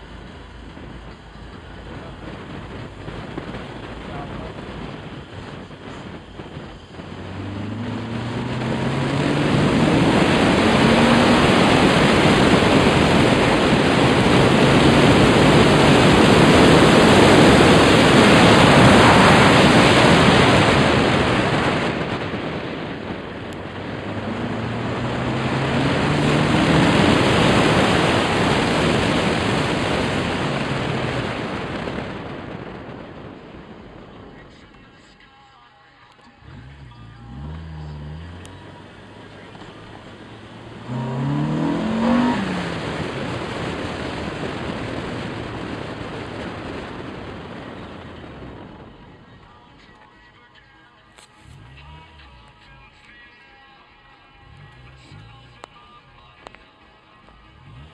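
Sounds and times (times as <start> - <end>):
car engine accelerating: 0.0 - 35.0, 36.1 - 50.0, 51.0 - 57.9
wind and road noise: 0.0 - 57.9.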